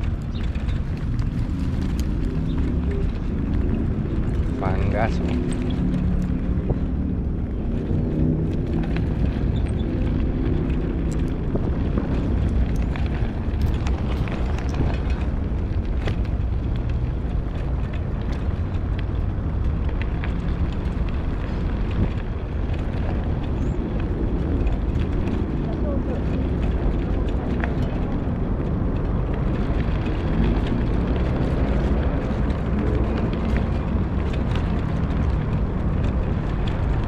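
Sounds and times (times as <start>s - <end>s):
bicycle tyre noise: 0.0s - 37.0s
wind rumble on microphone: 0.0s - 37.0s.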